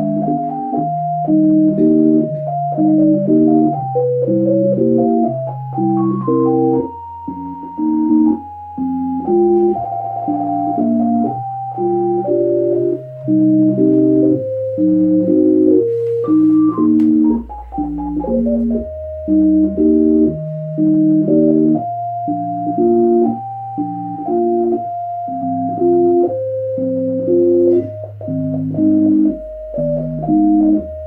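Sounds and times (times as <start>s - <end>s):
keyboard music with organ chords: 0.0s - 31.0s.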